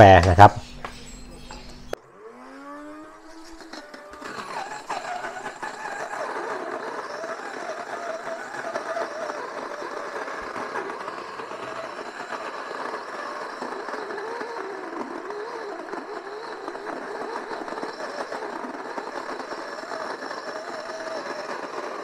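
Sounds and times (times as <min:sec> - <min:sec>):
electric coffee grinder running: 0:01.4 - 0:22.0.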